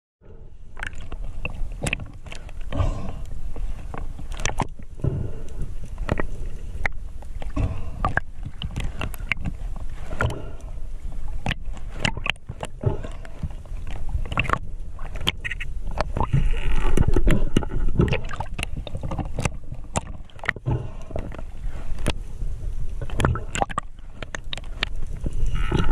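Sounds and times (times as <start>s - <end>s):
water sloshing and gurgling: 0.2s - 25.9s
underwater clicks and knocks: 0.8s - 22.2s, 23.0s - 25.9s.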